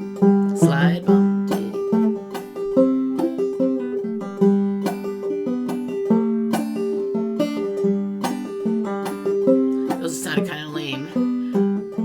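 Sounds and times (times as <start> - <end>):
banjo plucking: 0.0 - 12.0.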